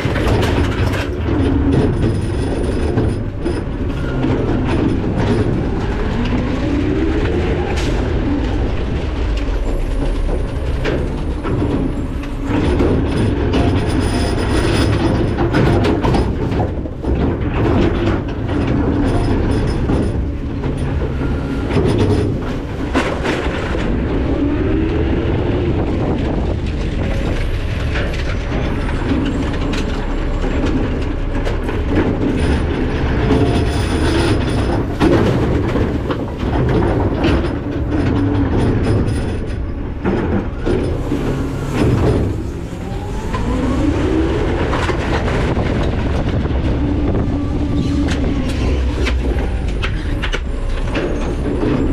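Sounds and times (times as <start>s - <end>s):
garbage truck rumbling and clanking: 0.0s - 51.9s
truck engine revving: 0.0s - 51.9s.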